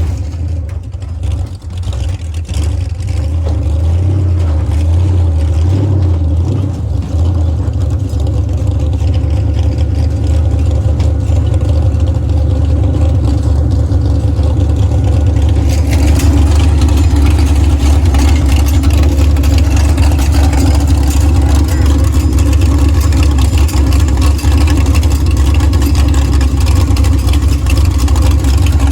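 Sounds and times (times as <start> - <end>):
monster truck engine running: 0.0 - 28.9.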